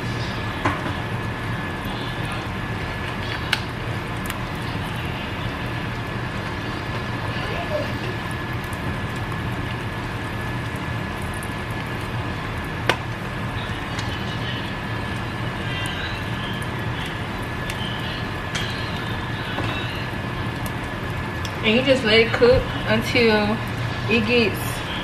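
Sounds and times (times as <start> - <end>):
egg sizzling in a pan: 0.0 - 25.0.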